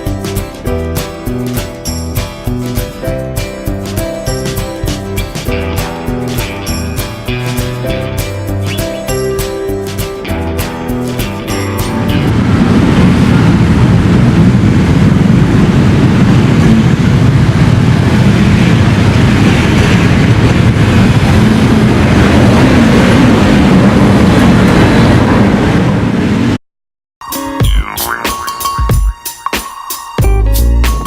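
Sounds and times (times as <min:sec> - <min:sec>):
vehicle rumbling in motion: 0:00.0 - 0:26.6.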